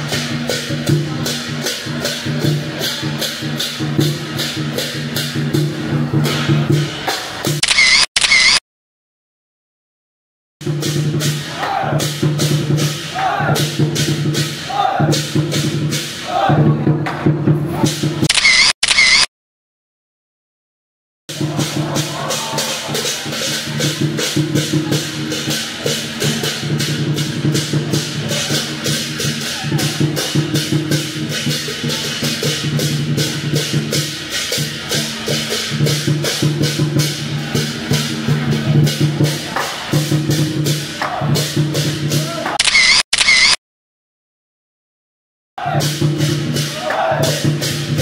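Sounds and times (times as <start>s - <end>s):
percussion sharp strikes: 0.0s - 8.6s, 10.6s - 18.7s, 21.3s - 42.9s, 45.6s - 48.0s.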